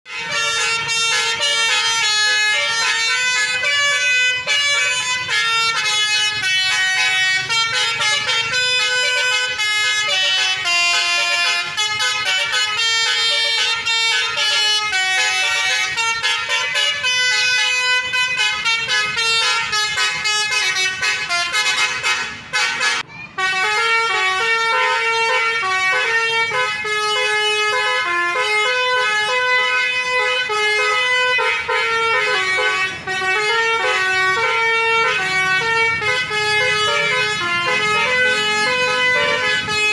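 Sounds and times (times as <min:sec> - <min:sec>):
multi-tone bus horn melody: 0:00.0 - 0:39.9.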